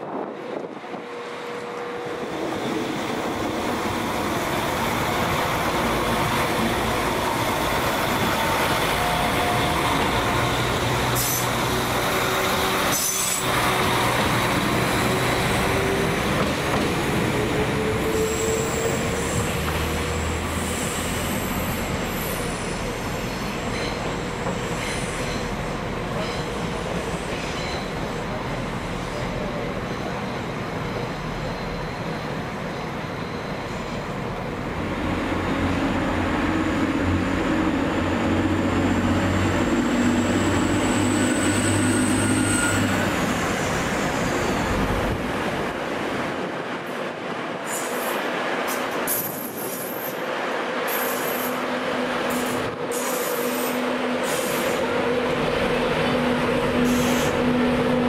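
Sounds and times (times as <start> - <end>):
train wheels squealing: 2.3 - 16.4, 17.0 - 28.3, 28.9 - 34.4, 38.8 - 45.2, 47.6 - 51.7, 52.3 - 57.6.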